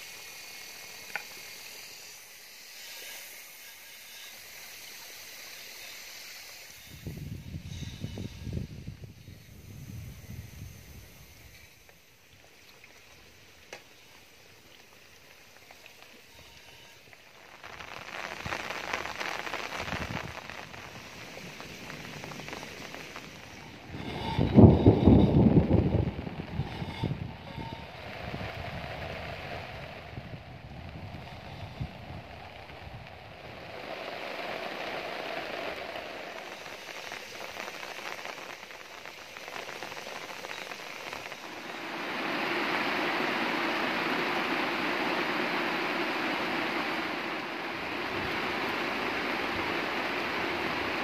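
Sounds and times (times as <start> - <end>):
hot oil sizzling and crackling: 0.0 - 51.0.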